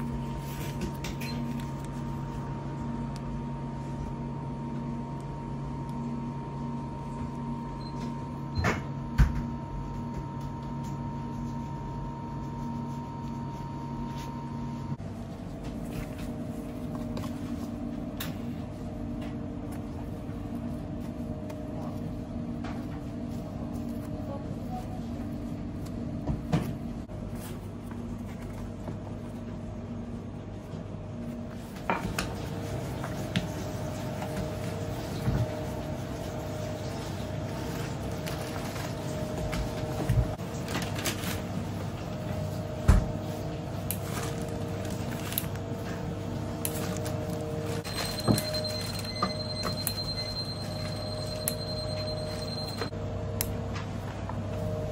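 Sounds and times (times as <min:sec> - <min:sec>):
kitchen equipment hum: 0:00.0 - 0:54.9.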